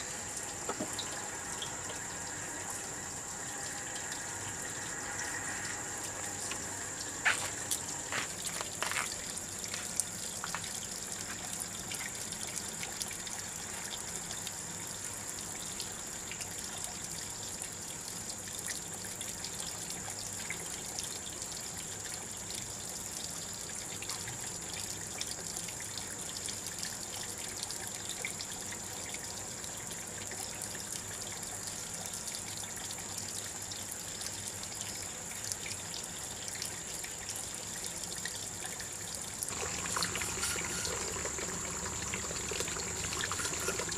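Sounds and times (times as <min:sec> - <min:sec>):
water pouring and splashing: 0:00.0 - 0:43.9.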